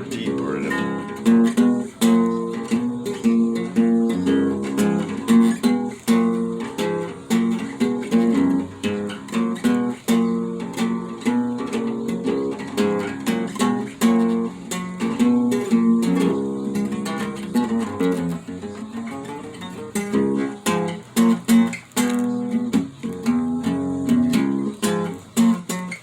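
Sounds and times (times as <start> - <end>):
guitar strumming: 0.0 - 26.0.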